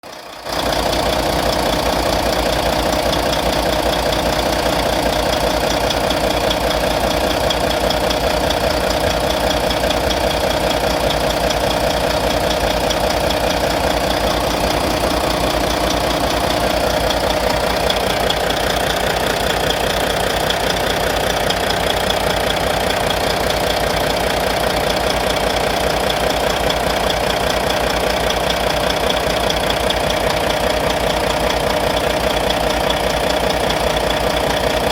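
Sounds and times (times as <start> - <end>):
diesel engine idling with tapping: 0.0 - 34.9.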